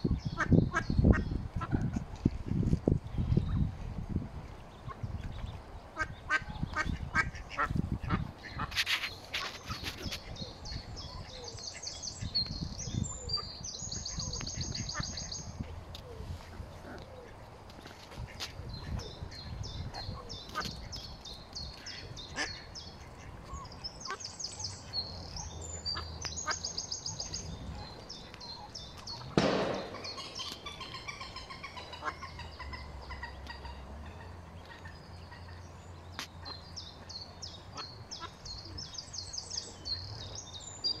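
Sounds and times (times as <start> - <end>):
ducklings peeping: 0.0 - 2.0, 4.8 - 41.0.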